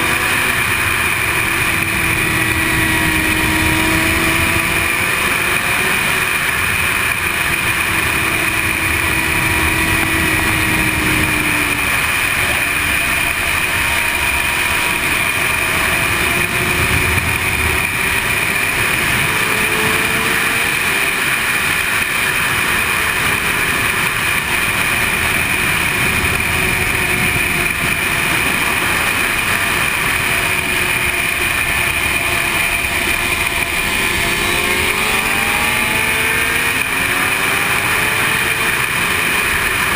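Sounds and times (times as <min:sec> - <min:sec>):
wind rush over microphone: 0:00.0 - 0:36.1
motorcycle engine: 0:00.0 - 0:39.9.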